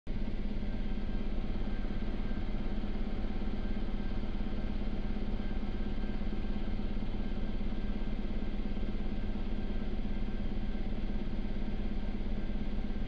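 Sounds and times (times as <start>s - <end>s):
helicopter cockpit drone: 0.1s - 13.0s.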